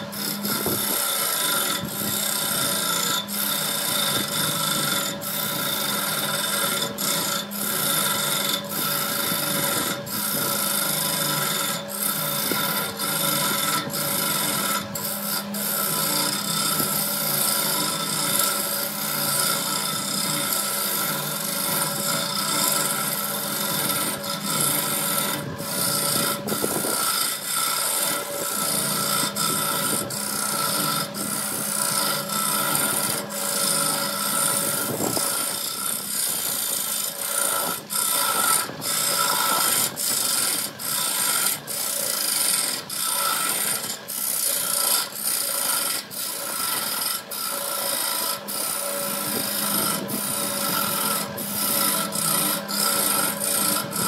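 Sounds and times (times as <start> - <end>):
lathe humming: 0.0 - 54.0
turning tool scraping wood: 0.0 - 54.0.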